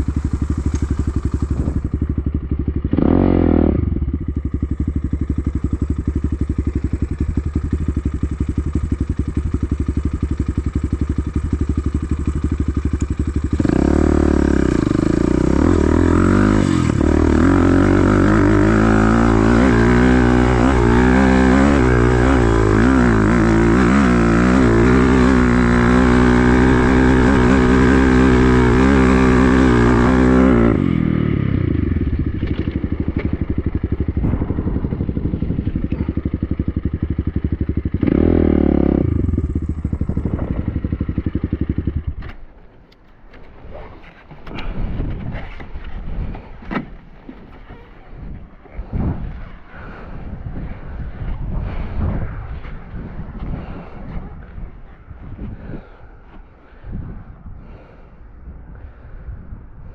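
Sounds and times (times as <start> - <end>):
dirt bike engine: 0.0 - 48.0.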